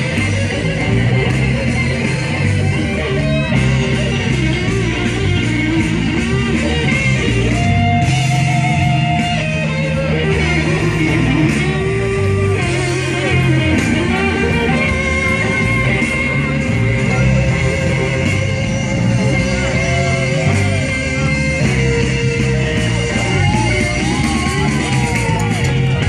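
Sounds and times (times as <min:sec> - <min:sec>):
electric guitar solo: 0:00.0 - 0:26.0
live band playing: 0:00.0 - 0:26.0
steady bass line: 0:00.0 - 0:26.0.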